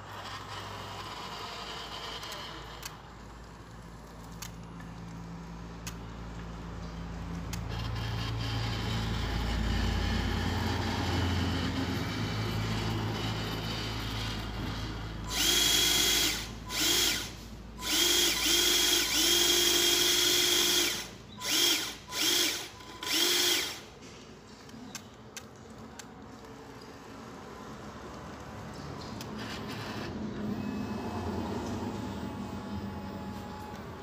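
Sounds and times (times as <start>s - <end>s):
electric motor and pump whining: 0.0s - 6.1s, 7.3s - 24.1s, 29.0s - 34.0s.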